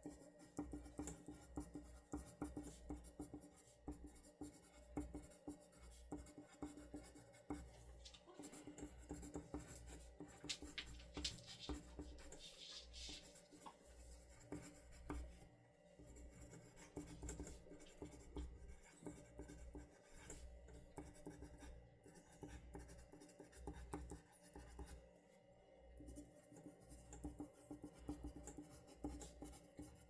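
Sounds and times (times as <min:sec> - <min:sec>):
pen scratching on paper: 0:00.0 - 0:07.8, 0:08.4 - 0:15.4, 0:16.0 - 0:25.0, 0:26.1 - 0:30.0.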